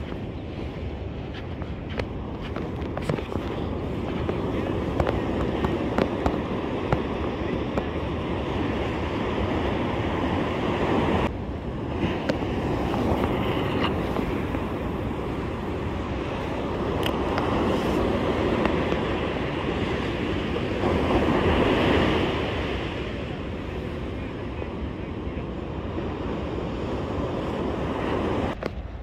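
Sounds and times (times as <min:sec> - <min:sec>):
surf breaking on a beach: 0:00.0 - 0:29.0
wind buffeting the microphone: 0:00.0 - 0:29.0.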